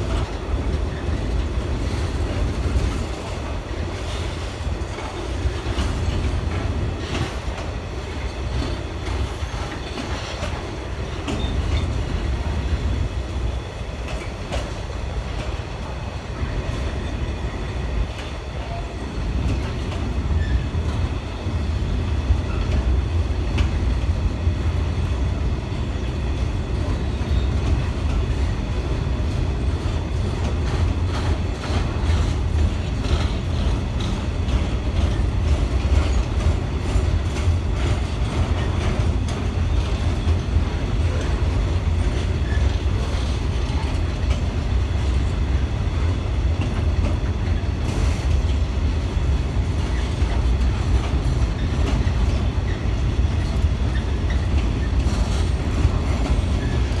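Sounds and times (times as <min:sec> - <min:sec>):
freight train rolling rumble: 0:00.0 - 0:57.0.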